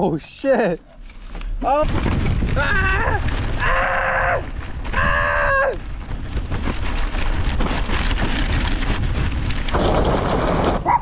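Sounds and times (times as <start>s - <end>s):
bicycle tyres on gravel: 1.1s - 11.0s
wind buffeting microphone: 1.8s - 11.0s.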